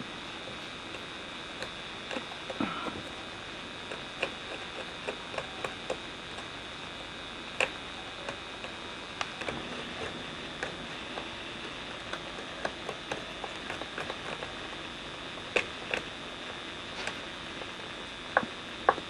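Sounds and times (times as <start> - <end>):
knife carving wood: 0.8 - 19.0.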